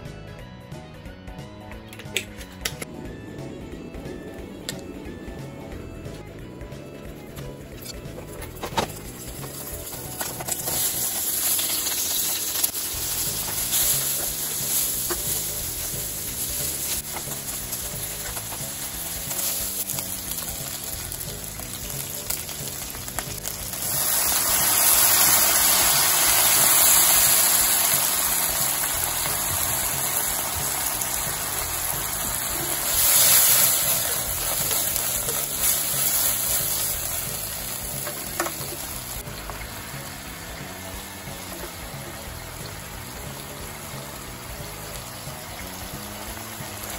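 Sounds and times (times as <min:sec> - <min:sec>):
onion and bacon sizzling in pan: 0:07.0 - 0:46.9.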